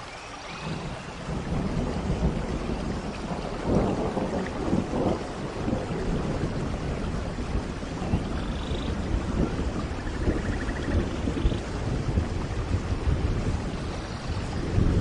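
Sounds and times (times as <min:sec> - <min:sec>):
steady rain falling: 0:00.0 - 0:15.0
rolling thunder rumble: 0:00.6 - 0:15.0.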